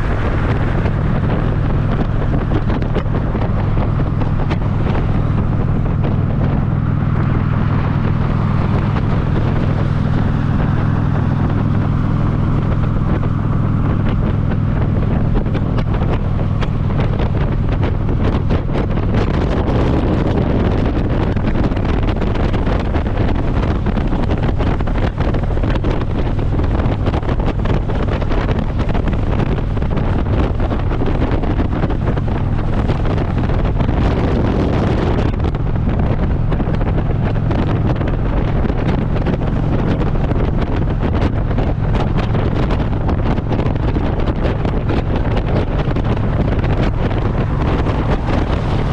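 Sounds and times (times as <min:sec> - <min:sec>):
motorcycle engine running: 0:00.0 - 0:48.9
wind buffeting microphone: 0:00.0 - 0:48.9.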